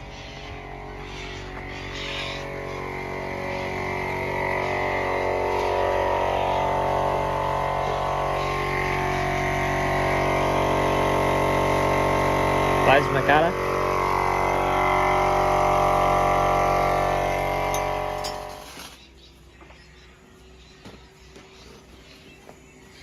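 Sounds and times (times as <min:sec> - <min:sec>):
plasma cutter electrical drone: 0:00.0 - 0:19.0.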